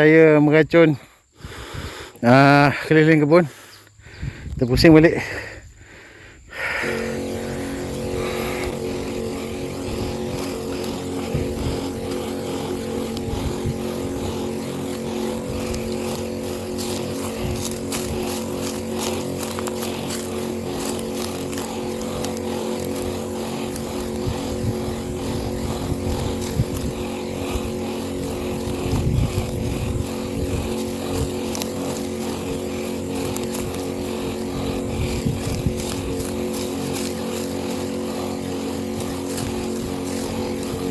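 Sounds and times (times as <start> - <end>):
small sprayer engine running: 0.0 - 40.9.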